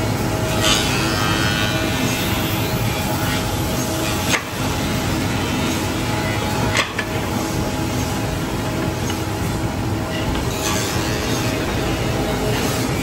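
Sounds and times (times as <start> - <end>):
woodworking machines droning: 0.0 - 13.0.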